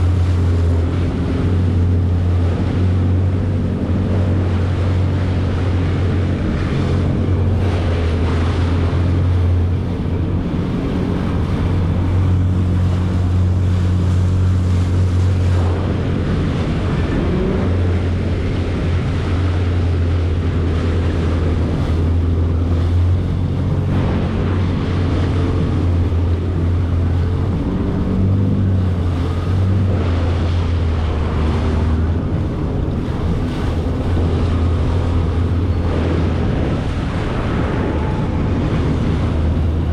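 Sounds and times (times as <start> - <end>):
jet ski engine humming: 0.0 - 39.9
rushing water: 0.0 - 39.9
wind noise on microphone: 0.0 - 39.9.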